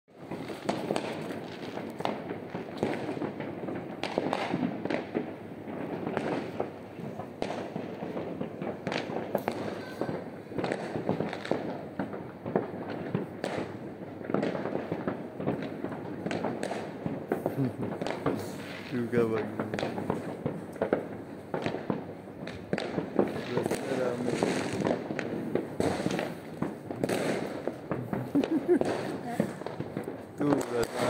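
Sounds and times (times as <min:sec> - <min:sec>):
distant fireworks rumble: 0:00.1 - 0:31.0
fireworks bangs and crackles: 0:00.1 - 0:31.0.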